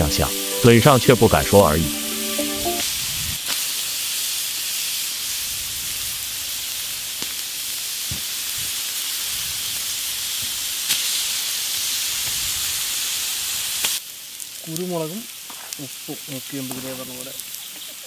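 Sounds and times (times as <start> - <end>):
meat sizzling on hot stones: 2.8 - 18.0.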